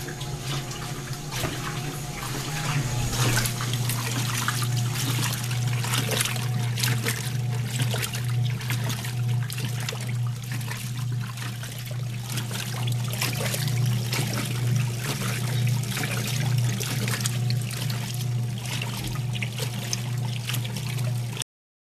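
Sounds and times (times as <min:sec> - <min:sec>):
washing machine motor hum: 0:00.0 - 0:21.4
water splashing and trickling: 0:00.0 - 0:21.4.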